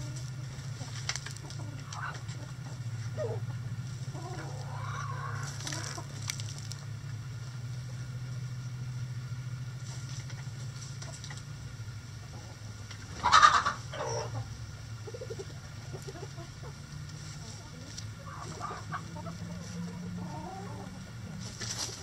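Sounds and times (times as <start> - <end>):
chickens clucking and calling: 0.0 - 22.0
steady low hum: 0.0 - 22.0.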